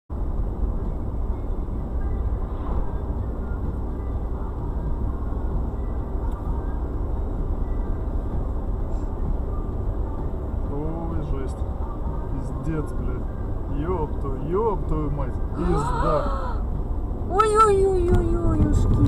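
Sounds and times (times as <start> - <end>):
car interior road and engine rumble: 0.1 - 19.0.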